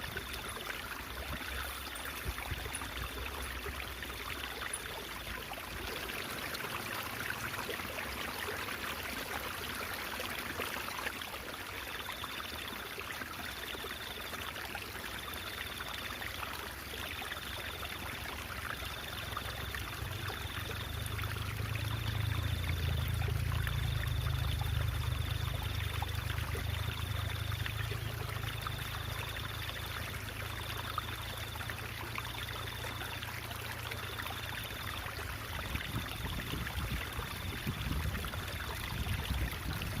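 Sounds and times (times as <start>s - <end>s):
water babbling in a stream: 0.0s - 40.0s.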